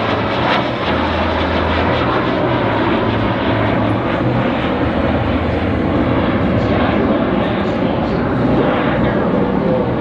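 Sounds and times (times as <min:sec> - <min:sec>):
jet aircraft in flight: 0:00.0 - 0:10.0.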